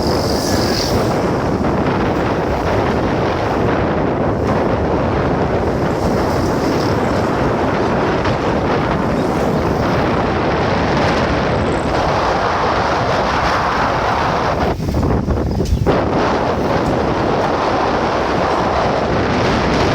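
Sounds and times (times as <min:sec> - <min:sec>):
low rumble: 0:00.0 - 0:19.9
wind buffeting microphone: 0:00.0 - 0:19.9.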